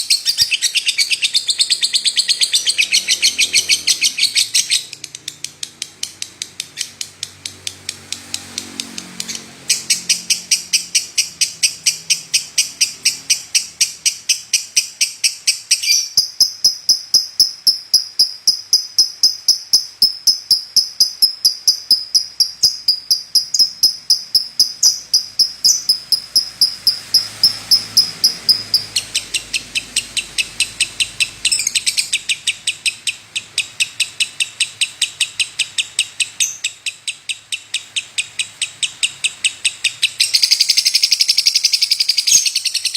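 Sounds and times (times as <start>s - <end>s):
bird chirping rapidly: 0.0s - 42.9s.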